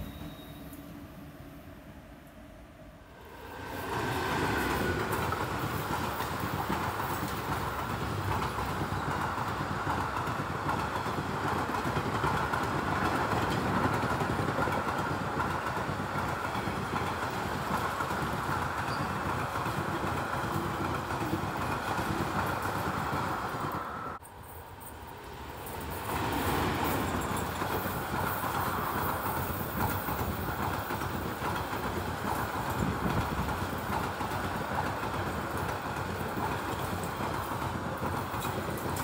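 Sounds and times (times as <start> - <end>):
train wheels rumbling on rails: 3.1 - 39.0.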